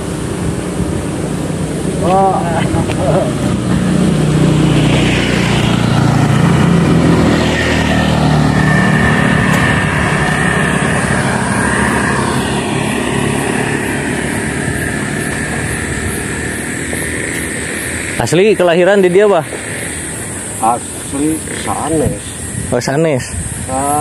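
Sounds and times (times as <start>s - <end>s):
road and wind noise: 0.0s - 24.0s
vehicle engine running: 0.0s - 24.0s.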